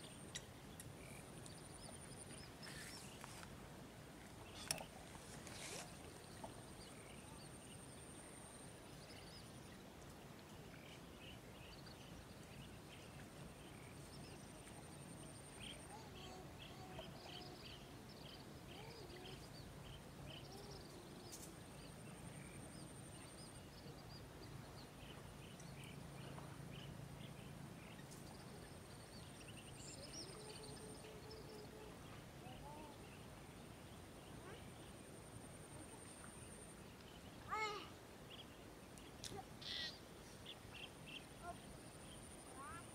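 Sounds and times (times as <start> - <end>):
small birds chirping: 0.0 - 3.5, 4.2 - 42.9.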